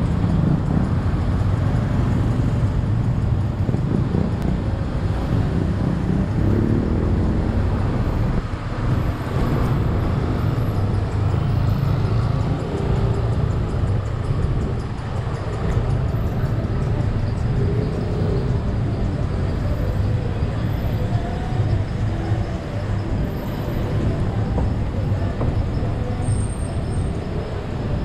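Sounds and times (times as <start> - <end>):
car and motorbike engines passing: 0.0 - 28.0.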